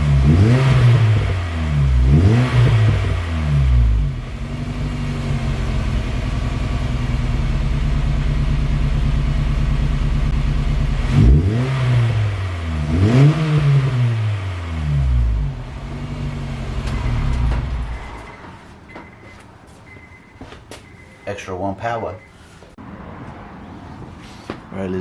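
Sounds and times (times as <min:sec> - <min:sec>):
car engine idling and revving: 0:00.0 - 0:21.2.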